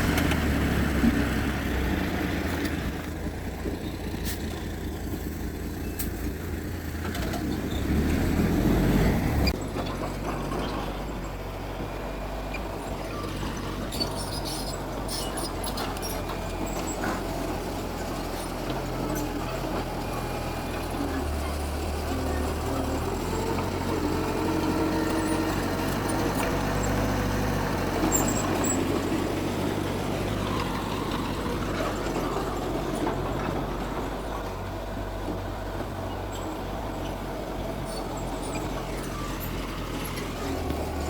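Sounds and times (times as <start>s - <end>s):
heavy diesel engines running: 0.0s - 41.0s.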